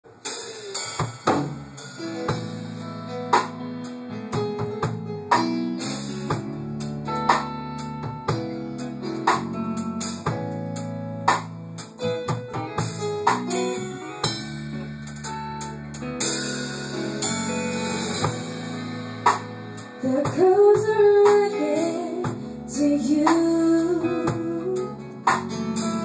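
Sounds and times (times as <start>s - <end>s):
slow love song by band: 0.3s - 26.0s
held guitar chords: 2.0s - 26.0s.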